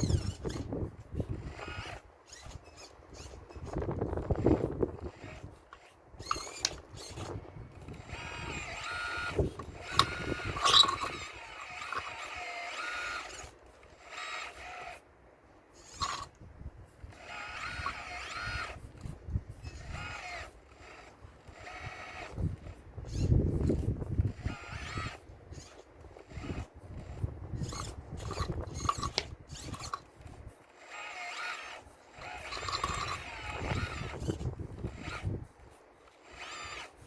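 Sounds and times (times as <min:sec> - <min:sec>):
electric motors whining: 0:00.0 - 0:37.0.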